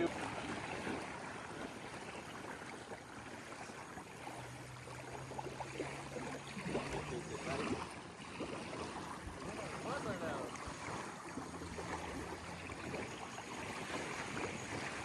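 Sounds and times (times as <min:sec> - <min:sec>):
lapping water: 0:00.0 - 0:15.0.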